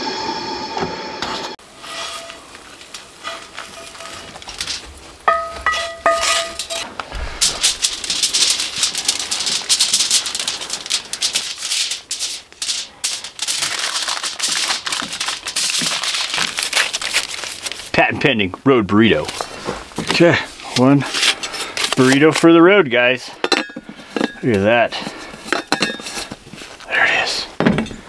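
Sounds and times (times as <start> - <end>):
aluminum foil crinkling: 1.8 - 18.0, 19.2 - 22.6, 23.5 - 26.9.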